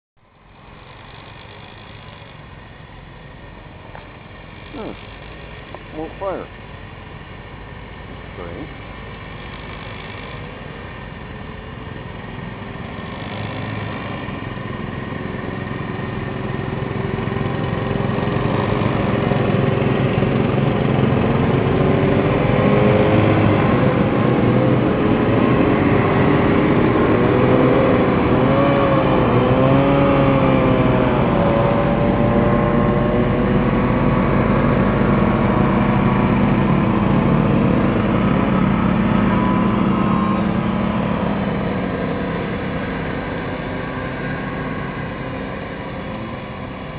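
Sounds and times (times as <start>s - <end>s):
snowmobile engines running: 0.2s - 46.9s.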